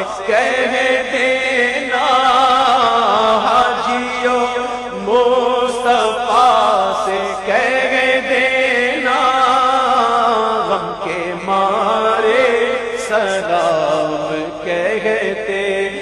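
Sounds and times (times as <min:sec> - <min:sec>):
steady held drone note: 0:00.0 - 0:16.0
voices singing devotional chant: 0:00.0 - 0:16.0.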